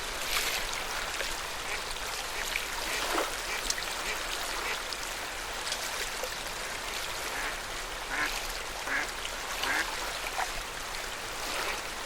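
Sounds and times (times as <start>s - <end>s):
water lapping at shore: 0.0s - 12.0s.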